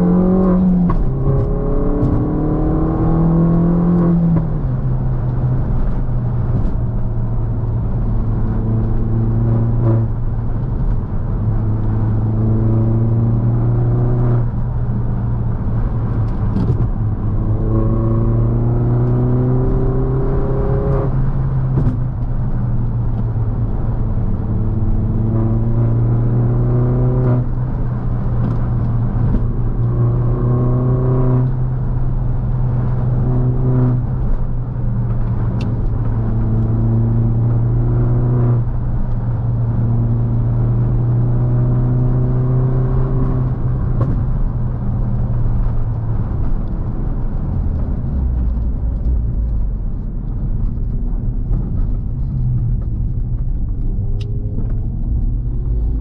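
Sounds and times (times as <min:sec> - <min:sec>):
car engine accelerating: 0:00.0 - 0:56.0
low road drone: 0:00.0 - 0:56.0.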